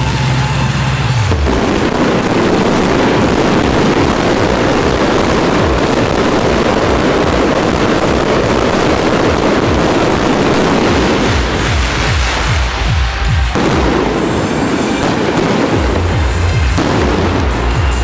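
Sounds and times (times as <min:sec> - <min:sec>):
fireworks and firecrackers crackling: 0:00.0 - 0:18.0.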